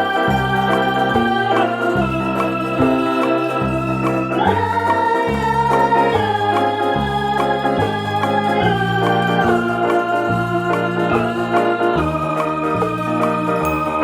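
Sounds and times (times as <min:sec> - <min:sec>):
instrumental music with bass line: 0:00.0 - 0:14.0.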